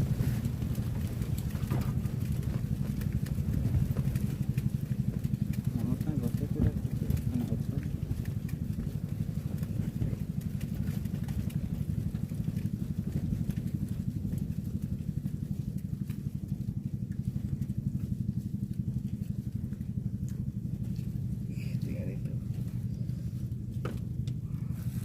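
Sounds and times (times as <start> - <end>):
small engine puttering: 0.0 - 25.0.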